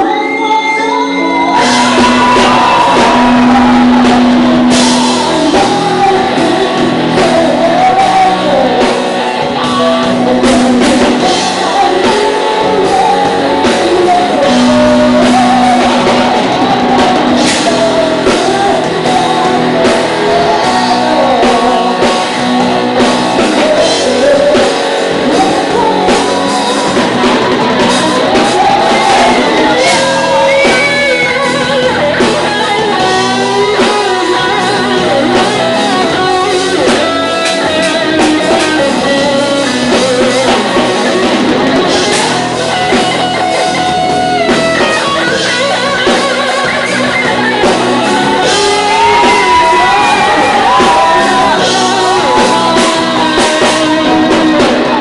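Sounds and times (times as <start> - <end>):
rock band playing live: 0.0 - 55.0
sung vocals: 0.0 - 55.0.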